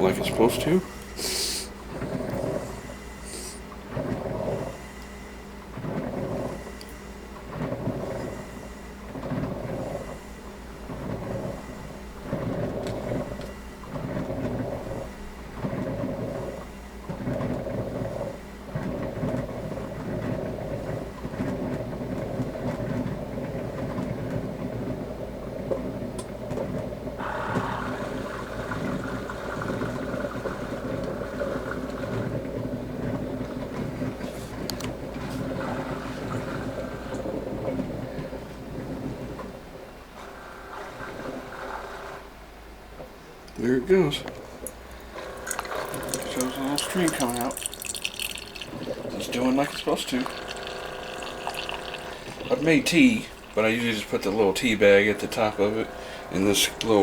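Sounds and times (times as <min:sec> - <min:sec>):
coffee maker pulsing bubbling: 0:00.0 - 0:39.6, 0:43.6 - 0:57.0.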